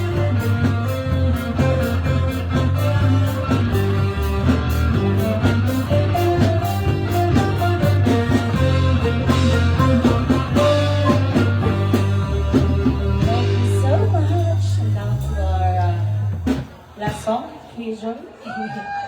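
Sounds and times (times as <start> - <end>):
guitar: 0.0 - 17.4
live band playing: 0.0 - 17.8.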